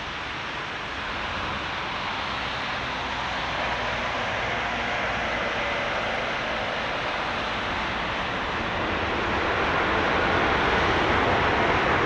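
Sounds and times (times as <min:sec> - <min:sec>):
jet engines on landing roll: 0:00.0 - 0:12.0.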